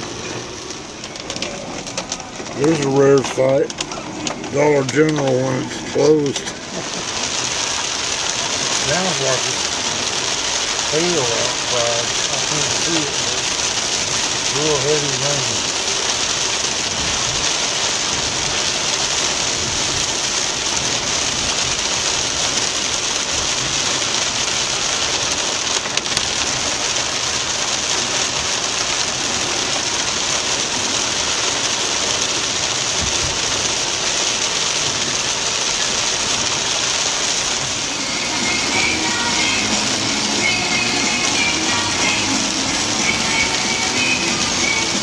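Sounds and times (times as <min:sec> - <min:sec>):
heavy rain on car roof: 0:00.0 - 0:45.0.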